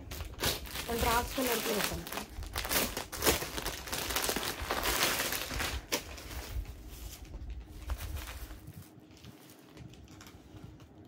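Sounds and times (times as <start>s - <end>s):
fabric rustling and crinkling: 0.0s - 11.0s.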